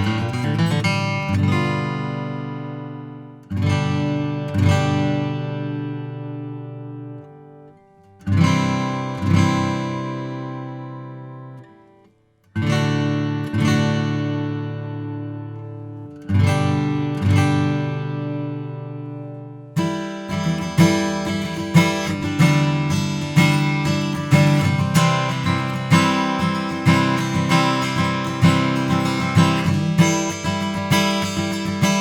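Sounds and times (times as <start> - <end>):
acoustic guitar strummed chords: 0.0 - 32.0.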